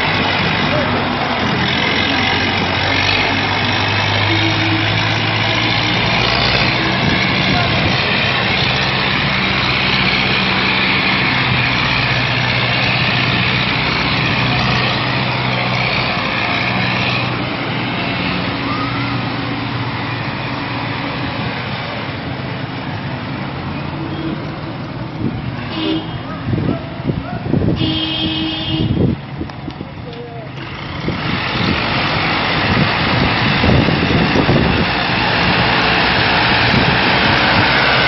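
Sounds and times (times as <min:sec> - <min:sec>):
tractor engines running hard: 0:00.0 - 0:38.0.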